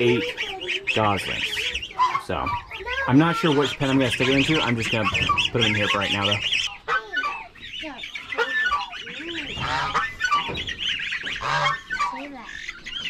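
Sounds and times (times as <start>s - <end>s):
goose honking: 0.0s - 12.8s
gosling peeping: 0.0s - 13.0s.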